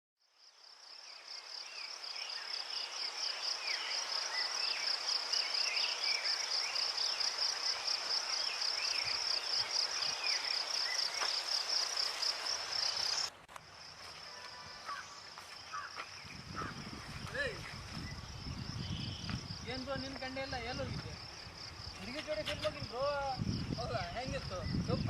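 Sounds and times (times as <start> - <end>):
insect chirping steadily: 0.2 - 25.0.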